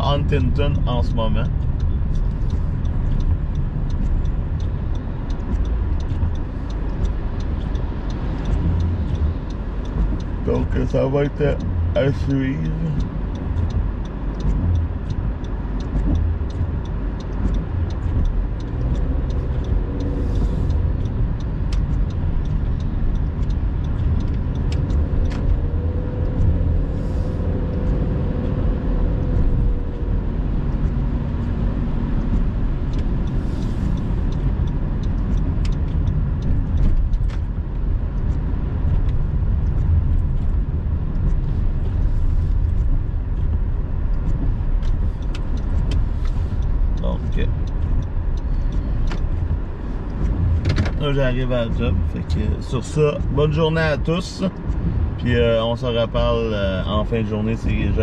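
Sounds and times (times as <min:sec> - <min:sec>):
car driving on wet road: 0:00.0 - 0:58.0
raindrops hitting windshield: 0:00.0 - 0:58.0
windshield wipers swishing: 0:00.0 - 0:58.0.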